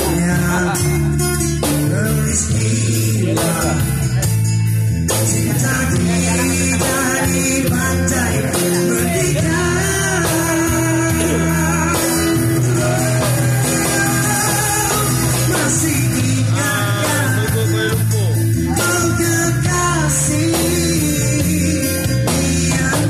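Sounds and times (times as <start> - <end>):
man singing into microphone: 0.0 - 4.4, 5.1 - 23.0
acoustic guitar strumming: 0.0 - 23.0.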